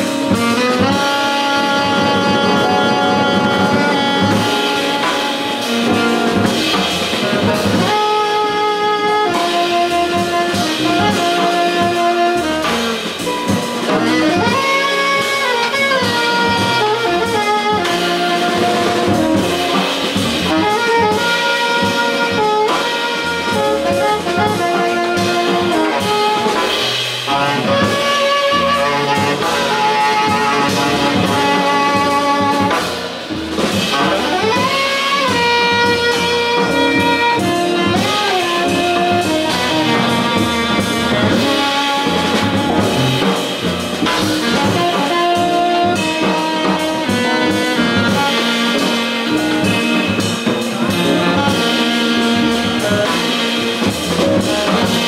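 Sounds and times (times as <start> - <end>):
alto saxophone melody: 0.0 - 55.0
drum kit: 0.0 - 55.0
upright double bass: 0.0 - 55.0.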